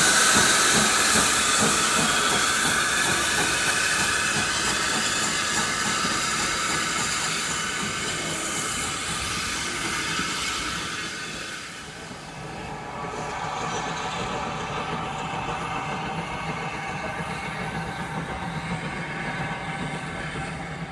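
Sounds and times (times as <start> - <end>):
steam hissing: 0.0 - 20.9
train running on rails: 0.0 - 20.9.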